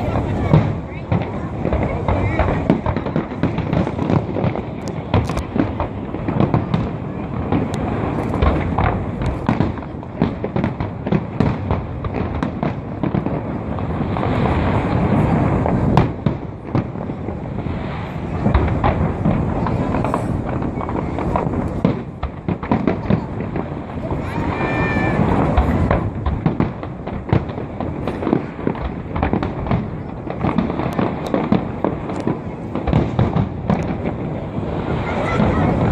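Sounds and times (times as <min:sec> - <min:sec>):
fireworks booming and crackling: 0:00.0 - 0:35.9.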